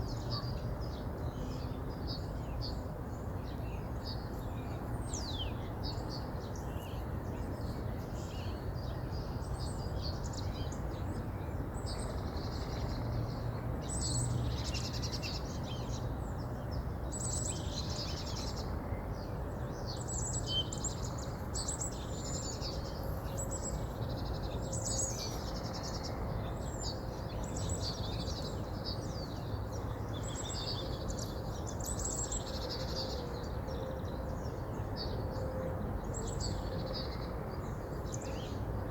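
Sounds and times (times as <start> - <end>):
songbirds twittering: 0.0 - 38.9.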